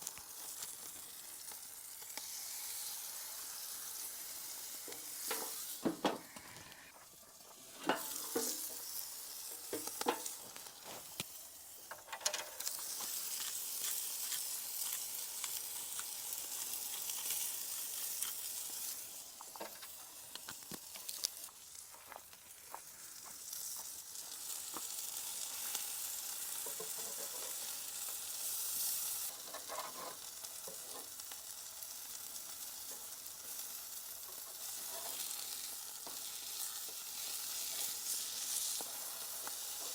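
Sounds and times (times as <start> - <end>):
food sizzling on a hot plate: 0.0 - 39.9.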